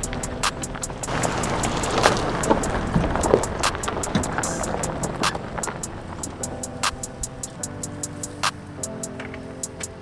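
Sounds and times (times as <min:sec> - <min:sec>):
background music with cymbal ticks: 0:00.0 - 0:01.6, 0:03.4 - 0:10.0.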